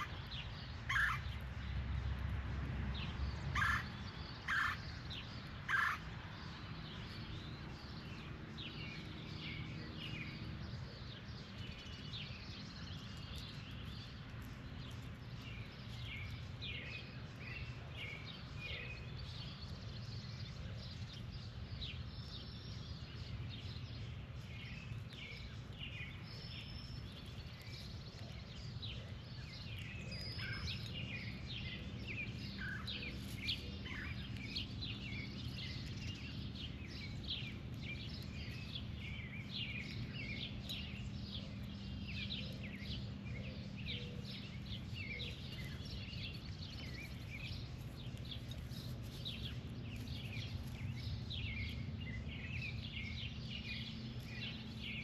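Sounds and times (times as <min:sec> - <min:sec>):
birds calling and chirping: 0:00.0 - 0:55.0
low background rumble: 0:00.0 - 0:55.0.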